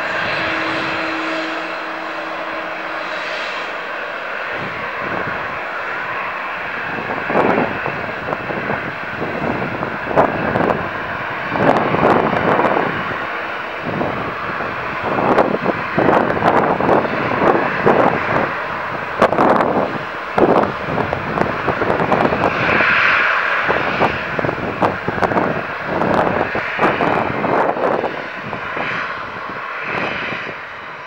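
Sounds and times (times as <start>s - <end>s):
jet engines rushing and crackling: 0.0s - 31.0s.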